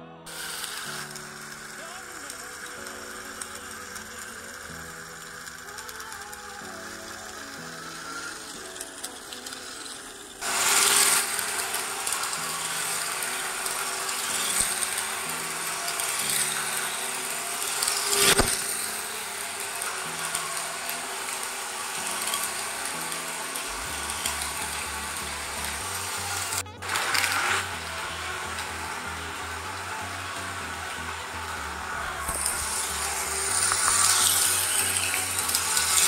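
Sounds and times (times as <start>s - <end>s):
background music: 0.0s - 36.0s
toy car motors whirring: 0.2s - 36.0s.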